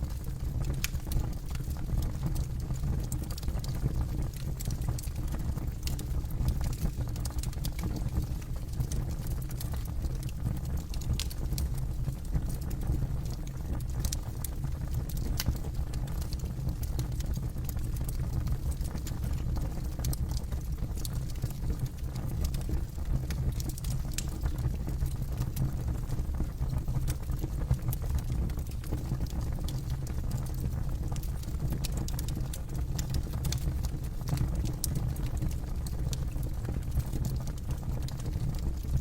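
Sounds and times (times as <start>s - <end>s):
campfire crackling and popping: 0.0s - 25.9s, 26.5s - 39.0s.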